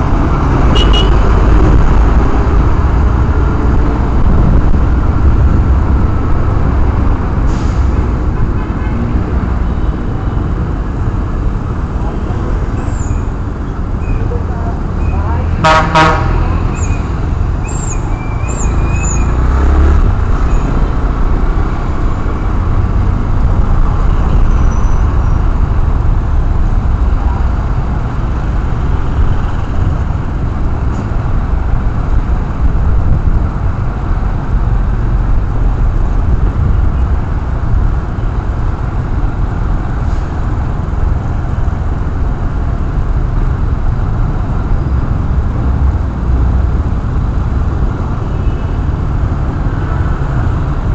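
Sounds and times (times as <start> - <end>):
wind rushing over microphone: 0.0 - 9.6, 16.5 - 48.2
road traffic noise: 0.0 - 50.9.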